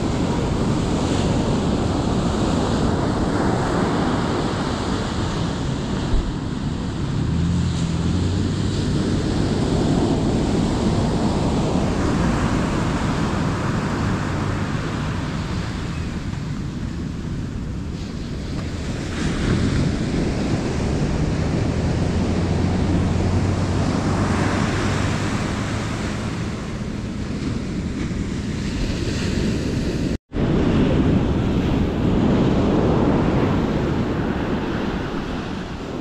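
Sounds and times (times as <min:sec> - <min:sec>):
surf washing onto beach: 0:00.0 - 0:36.0
wind buffeting microphone: 0:00.0 - 0:36.0.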